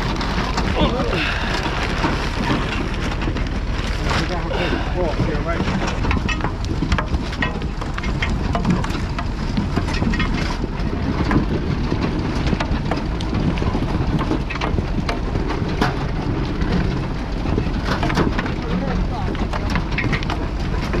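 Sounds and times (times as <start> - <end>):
low rumble of machinery: 0.0 - 21.0
rattling and clatter of harvester: 0.0 - 21.0.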